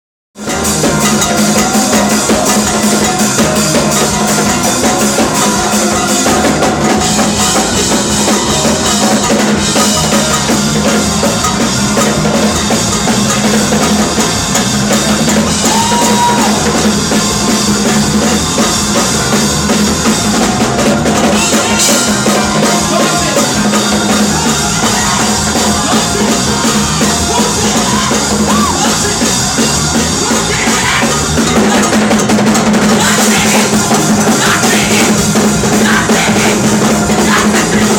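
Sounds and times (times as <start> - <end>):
music with drum kit: 0.4 - 37.9.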